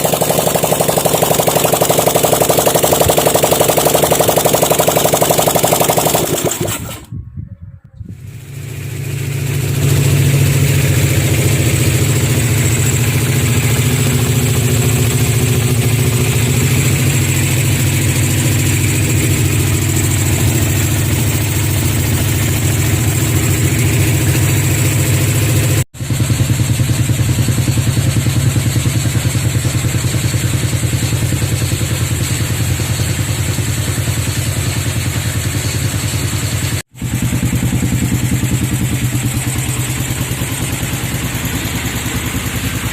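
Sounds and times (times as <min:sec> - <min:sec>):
motorcycle engine idling: 0:00.0 - 0:07.1, 0:08.1 - 0:42.9.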